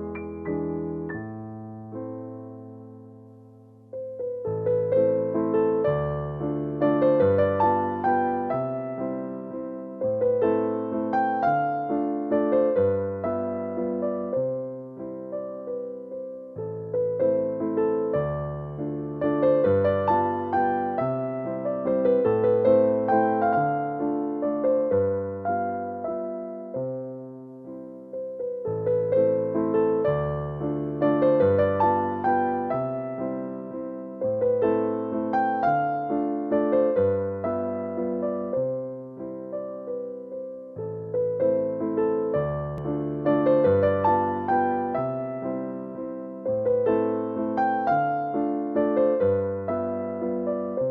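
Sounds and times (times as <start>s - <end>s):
piano music: 0.0s - 50.9s.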